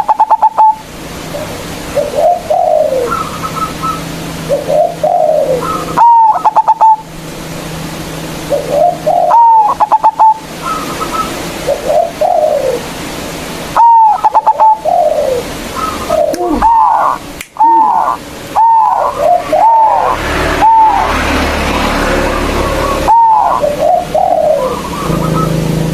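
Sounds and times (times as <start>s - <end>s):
dove cooing: 0.0s - 7.1s, 8.4s - 13.0s, 13.8s - 25.8s.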